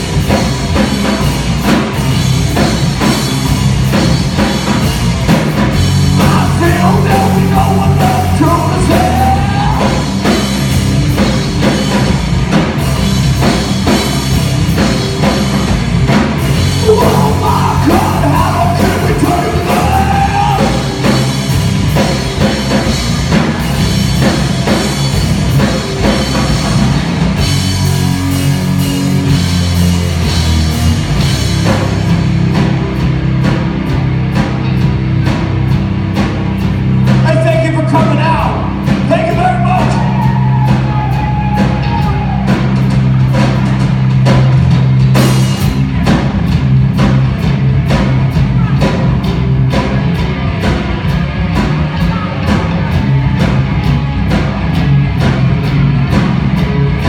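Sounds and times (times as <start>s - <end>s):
bass guitar: 0.0s - 57.0s
distorted electric guitars: 0.0s - 57.0s
drum kit: 0.0s - 57.0s
rock vocals: 0.0s - 57.0s.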